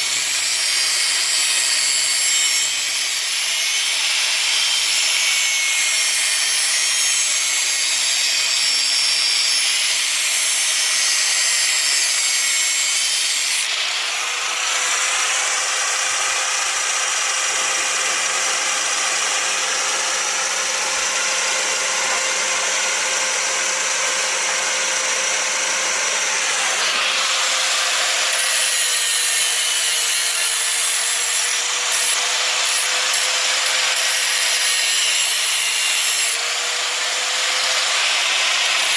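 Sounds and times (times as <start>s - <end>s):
electric grinder grinding metal: 0.0s - 38.9s.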